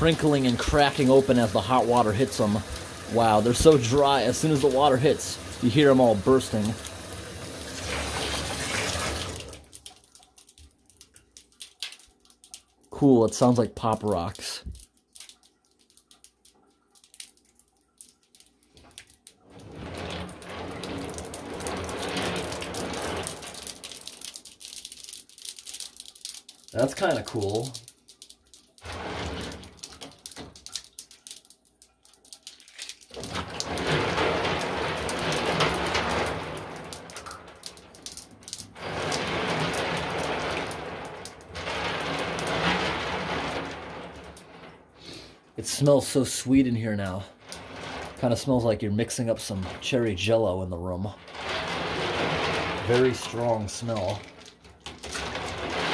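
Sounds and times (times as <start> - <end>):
candies crackling in hot water: 0.0 - 55.9.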